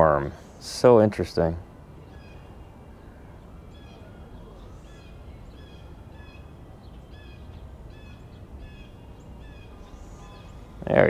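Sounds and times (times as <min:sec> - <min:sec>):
low background rumble: 0:00.0 - 0:11.0
bird calling repeated notes: 0:02.0 - 0:11.0.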